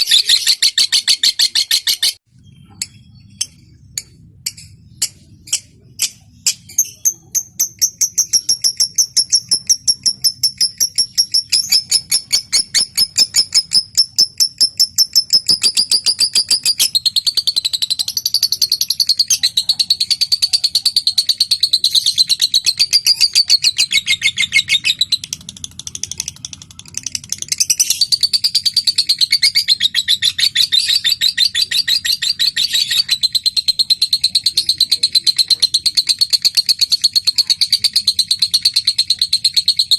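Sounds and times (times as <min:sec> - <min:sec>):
lovebird chattering trill: 0:00.0 - 0:02.2, 0:02.8 - 0:39.9.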